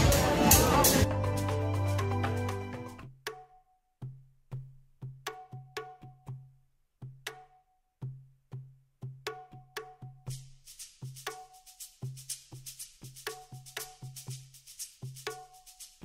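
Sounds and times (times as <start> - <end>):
sparse percussion beat with bass: 0.0 - 3.4, 4.0 - 16.0.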